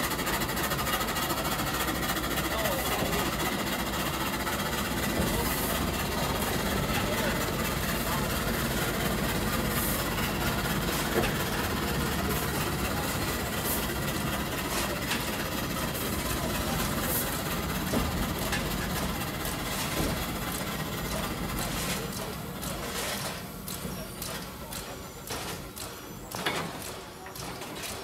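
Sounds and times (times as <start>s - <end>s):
steam locomotive hiss and rumble: 0.0s - 28.0s.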